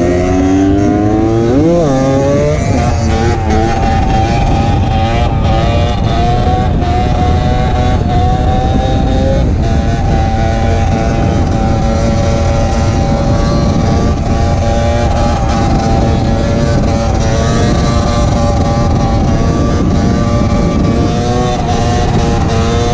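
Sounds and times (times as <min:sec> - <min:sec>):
two-stroke motorcycle engine running: 0:00.0 - 0:22.9.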